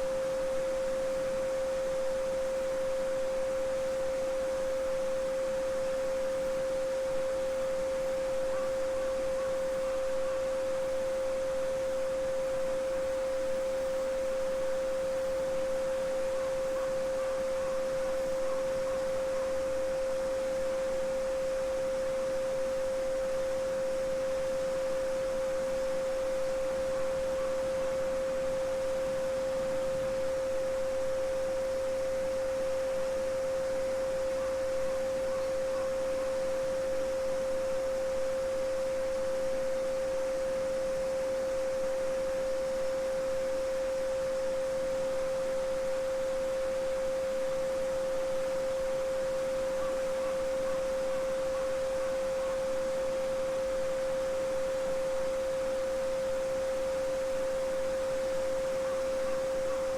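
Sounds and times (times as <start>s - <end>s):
steady sine tone: 0.0s - 59.9s.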